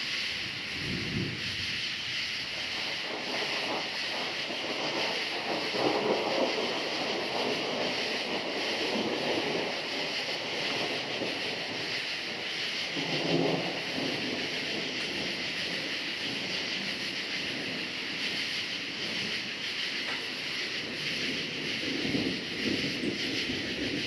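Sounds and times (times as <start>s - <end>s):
crickets chirping: 0.0s - 24.0s
rolling thunder: 0.0s - 24.0s.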